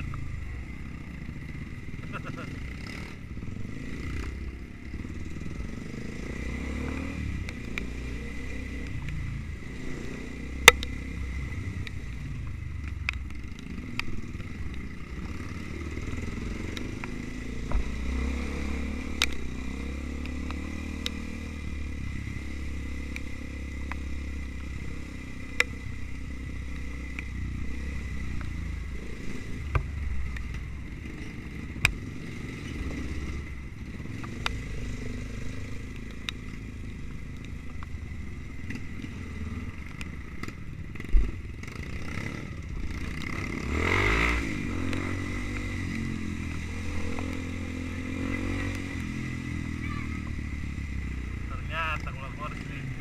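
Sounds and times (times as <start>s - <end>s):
dirt bike engine at low revs: 0.0s - 53.0s.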